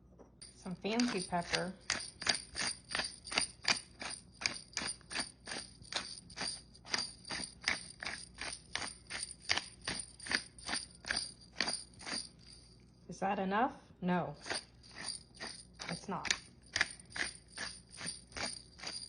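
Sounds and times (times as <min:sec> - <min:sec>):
pepper mill grinding: 0:00.4 - 0:13.0, 0:14.4 - 0:19.0.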